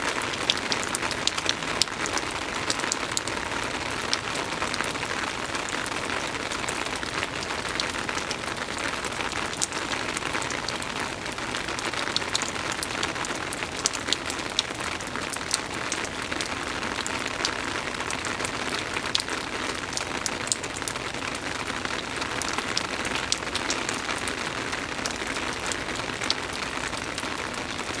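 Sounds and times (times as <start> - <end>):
rain on a wooden deck: 0.0 - 28.0
raindrops ticking on boards: 0.1 - 28.0.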